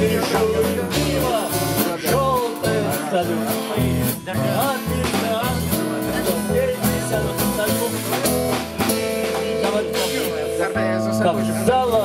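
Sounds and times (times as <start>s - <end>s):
band playing live: 0.0s - 12.0s.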